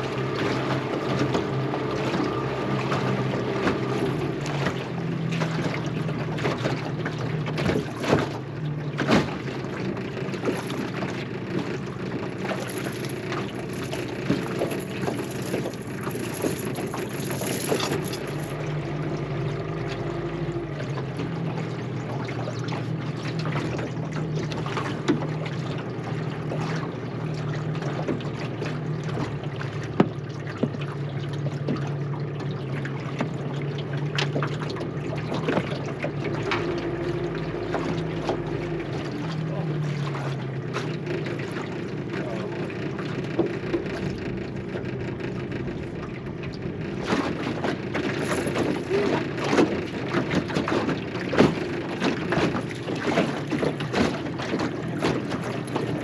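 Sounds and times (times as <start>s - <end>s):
outboard motor running: 0.0s - 56.0s
water splashing along hull: 0.0s - 56.0s.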